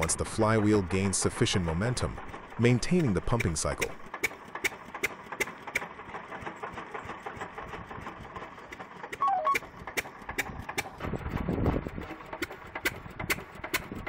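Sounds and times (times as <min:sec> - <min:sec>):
pump jack engine idling: 0:00.0 - 0:14.0
sharp engine clicks: 0:00.0 - 0:14.0.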